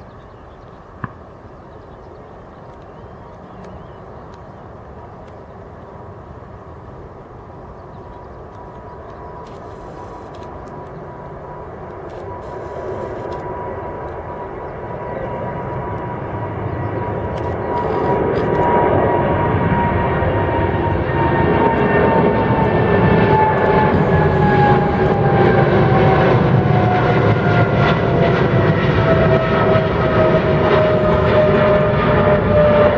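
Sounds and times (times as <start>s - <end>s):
jet engines rushing with whine: 0.0s - 32.9s.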